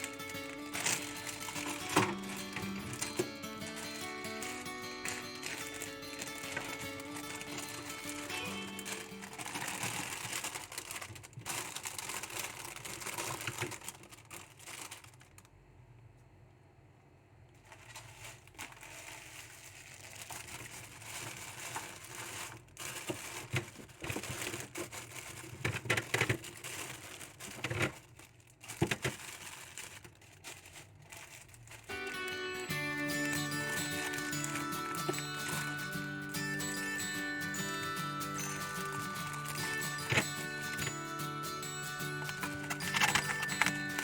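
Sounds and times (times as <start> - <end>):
plastic bags crinkling: 0.0 - 15.5, 17.6 - 44.0.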